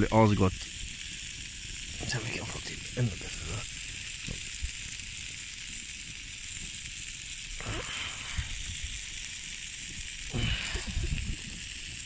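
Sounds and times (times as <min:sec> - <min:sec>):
campfire hissing: 0:00.0 - 0:12.0
low irregular rumble: 0:00.0 - 0:12.0.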